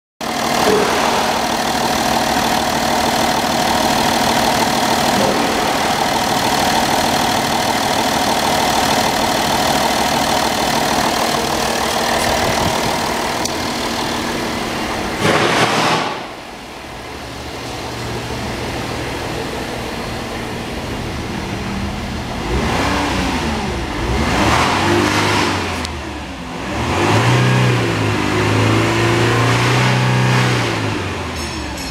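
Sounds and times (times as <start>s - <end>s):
diesel engine running and revving: 0.2s - 31.9s.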